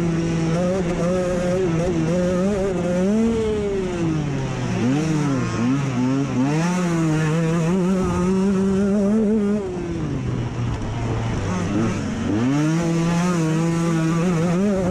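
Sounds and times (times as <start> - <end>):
dirt bike engine revving: 0.0 - 14.9.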